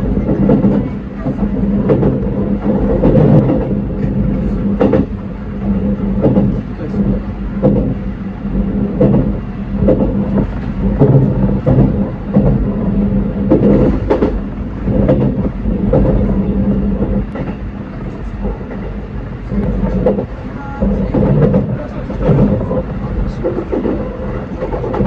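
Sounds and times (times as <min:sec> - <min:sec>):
train running hum: 0:00.0 - 0:25.0
wheels knocking and rattling: 0:00.0 - 0:25.0.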